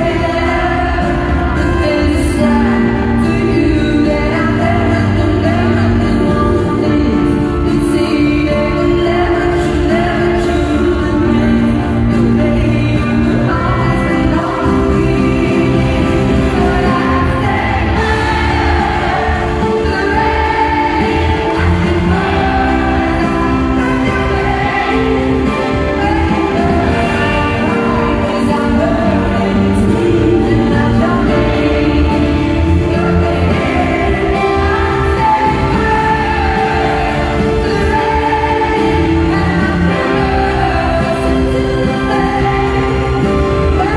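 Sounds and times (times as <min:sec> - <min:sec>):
live band playing pop: 0:00.0 - 0:43.9
woman singing into microphone: 0:00.0 - 0:43.9.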